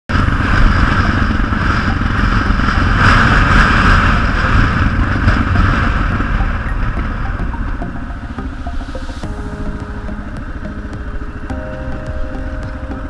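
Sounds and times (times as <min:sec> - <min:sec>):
motorcycle engine running: 0:00.1 - 0:13.0
rush of riding wind: 0:00.1 - 0:13.0.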